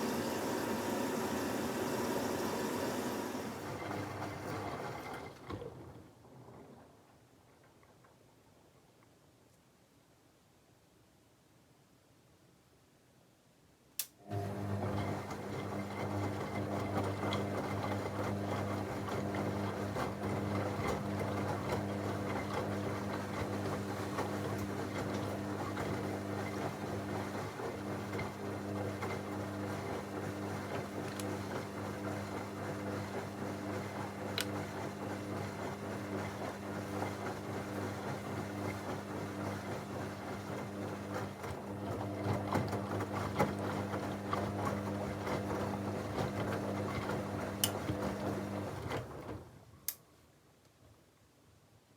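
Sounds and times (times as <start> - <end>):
washing machine motor hum: 0.0 - 6.6, 14.2 - 49.5.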